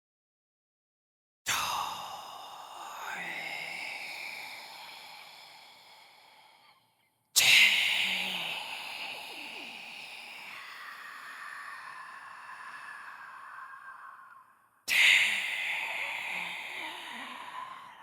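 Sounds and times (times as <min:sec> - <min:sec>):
hissing whisper: 0:01.5 - 0:06.8, 0:07.4 - 0:18.0.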